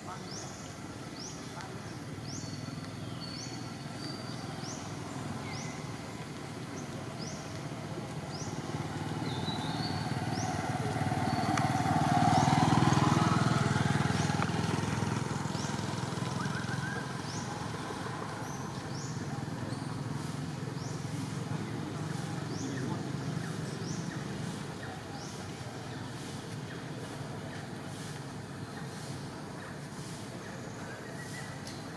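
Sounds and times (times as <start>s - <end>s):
motor vehicle passing: 2.1s - 30.3s.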